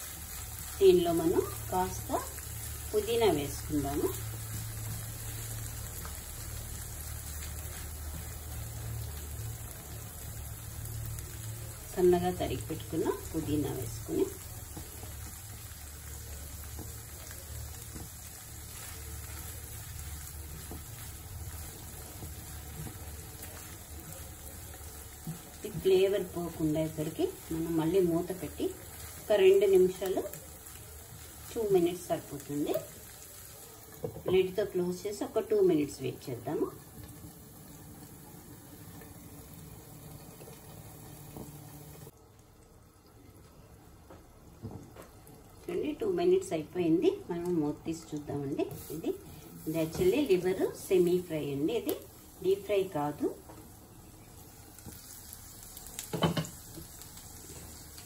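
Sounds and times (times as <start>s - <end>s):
liver sizzling in frying pan: 0.0s - 58.0s.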